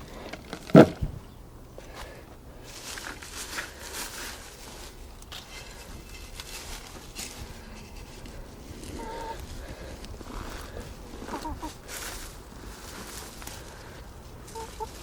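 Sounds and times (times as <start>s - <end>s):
dry plants rustling and crackling: 1.8s - 15.0s.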